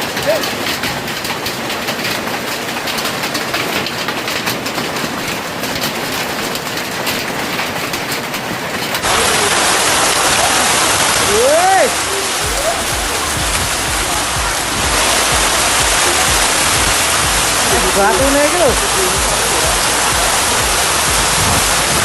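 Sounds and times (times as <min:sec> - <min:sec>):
hailstones clattering: 0:00.0 - 0:22.0
heavy rain: 0:00.0 - 0:22.0.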